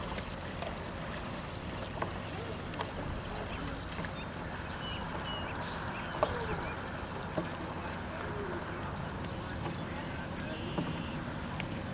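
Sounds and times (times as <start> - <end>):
boat engine rumble: 0.0 - 11.9.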